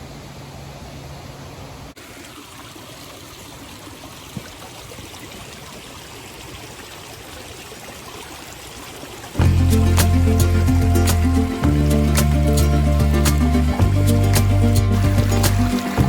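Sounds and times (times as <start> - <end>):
rushing mountain water: 1.9 - 16.0.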